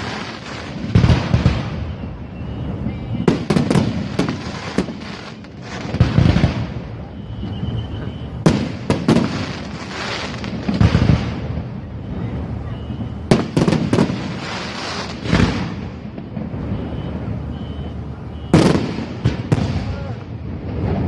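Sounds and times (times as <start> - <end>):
firework sharp cracks: 0.0 - 21.0
firework shells booming: 0.0 - 21.0.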